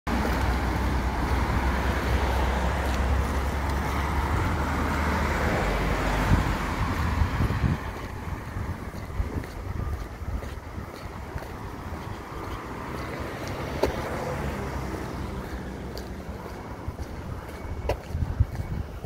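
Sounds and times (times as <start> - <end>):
vehicle passing by: 0.1 - 19.0.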